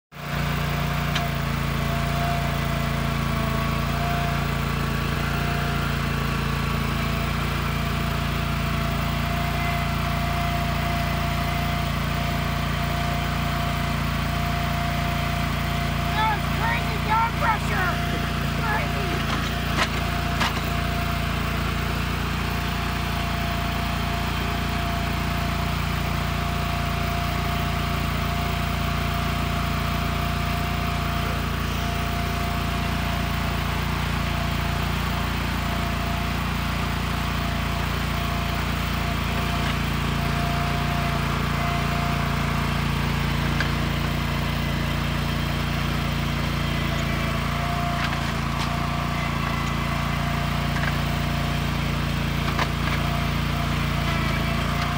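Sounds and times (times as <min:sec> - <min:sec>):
auger grinding hard ground: 0:00.2 - 0:54.9
loader engine running: 0:00.2 - 0:54.9.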